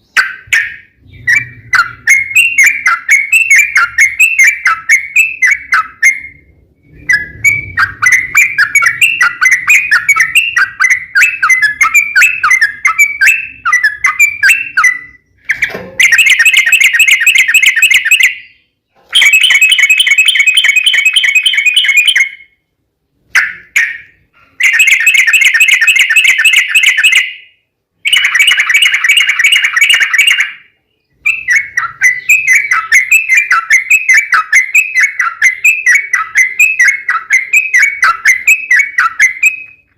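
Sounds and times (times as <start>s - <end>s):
bird singing chattering song: 0.0s - 22.6s, 23.3s - 39.9s.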